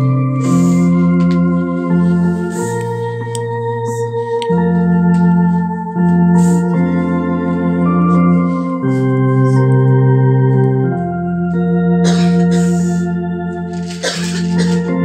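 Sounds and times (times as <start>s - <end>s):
electronic organ playing chords: 0.0s - 15.0s.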